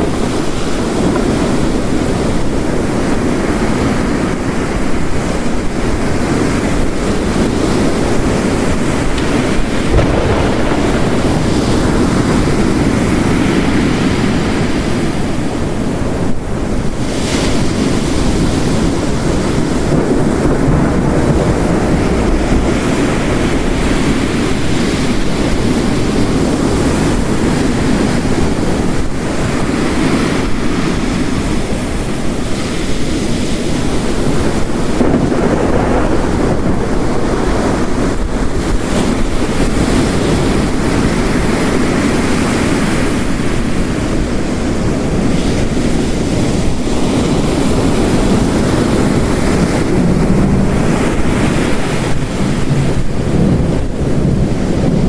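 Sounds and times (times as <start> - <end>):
heavy rain: 0.0 - 55.0
ocean waves crashing: 0.0 - 55.0.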